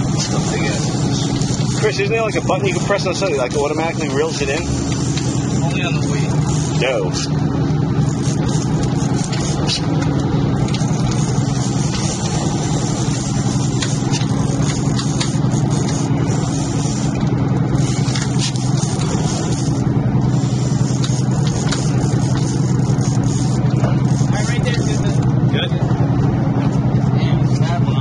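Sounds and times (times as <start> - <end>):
boat engines low hum: 0.0 - 28.0.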